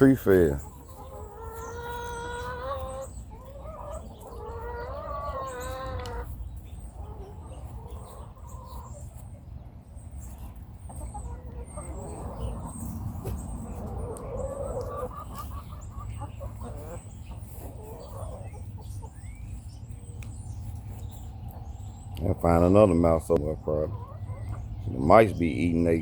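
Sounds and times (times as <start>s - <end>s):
hen clucking: 0.0s - 26.0s.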